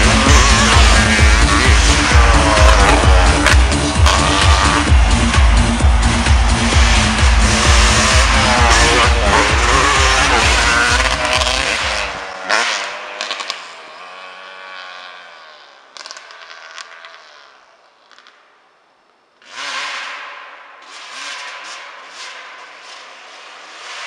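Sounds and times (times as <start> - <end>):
dirt bike engine revving: 0.0 - 18.2, 19.4 - 24.0.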